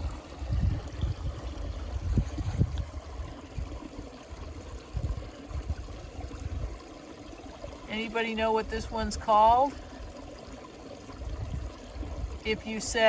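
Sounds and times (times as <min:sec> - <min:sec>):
small stream trickling: 0:00.0 - 0:13.0.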